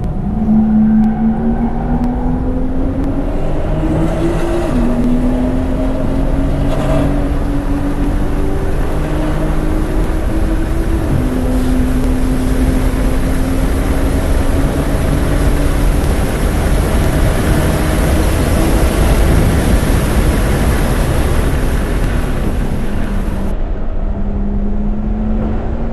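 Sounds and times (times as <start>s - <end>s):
car engine at full throttle: 0.0s - 25.9s
wind and road noise: 0.0s - 25.9s.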